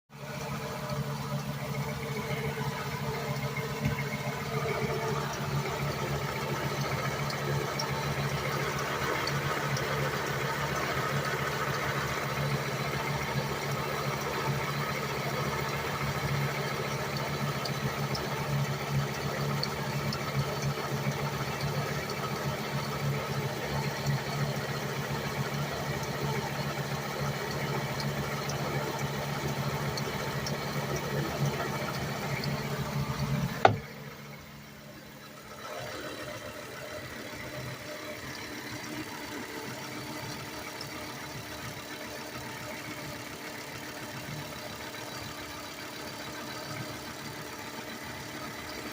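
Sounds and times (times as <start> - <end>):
car engine idling: 0.1 - 48.9.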